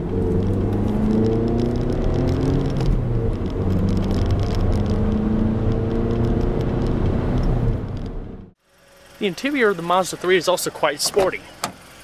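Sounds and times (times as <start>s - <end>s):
car engine: 0.0s - 12.0s.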